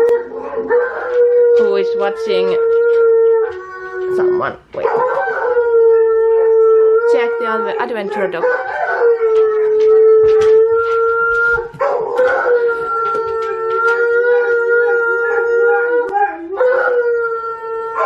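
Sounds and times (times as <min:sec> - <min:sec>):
dog howling on television: 0:00.0 - 0:18.0
dogs howling: 0:00.0 - 0:18.0.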